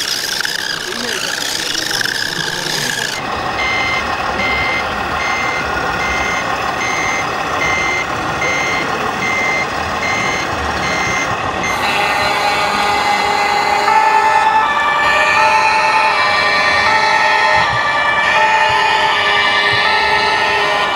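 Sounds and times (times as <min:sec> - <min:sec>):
reversing warning beeper: 0:00.0 - 0:20.9
steady tone: 0:00.0 - 0:20.9.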